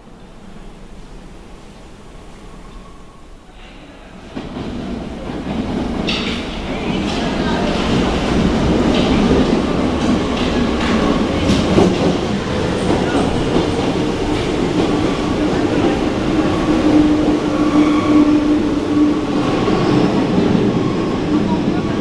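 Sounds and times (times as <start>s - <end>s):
train whine: 0.0s - 22.0s
train wheels rumbling on rail: 0.2s - 22.0s.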